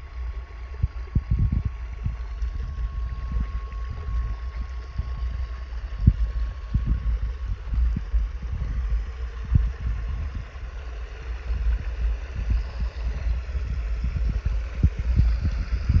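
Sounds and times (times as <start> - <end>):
low rumble with thumps: 0.0 - 16.0
water spraying and running: 0.0 - 16.0.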